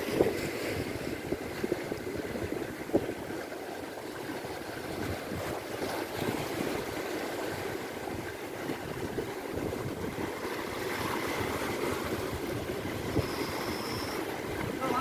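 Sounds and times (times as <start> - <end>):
wind on microphone: 0.0 - 3.5, 4.2 - 15.0
sea waves washing: 0.0 - 15.0.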